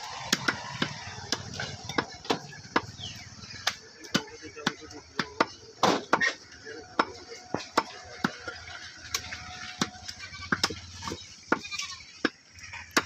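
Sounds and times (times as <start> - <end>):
cleavers chopping meat and bone: 0.0 - 13.0.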